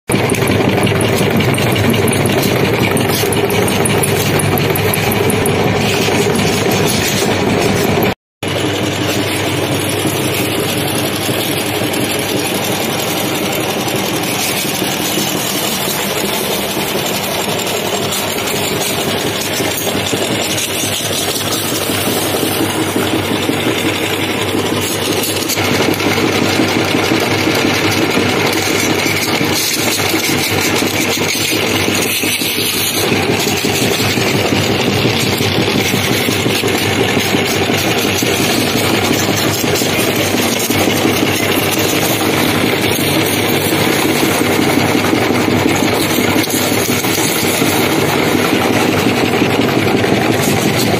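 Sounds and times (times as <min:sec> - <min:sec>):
meat grinder grinding chips: 0:00.1 - 0:50.9.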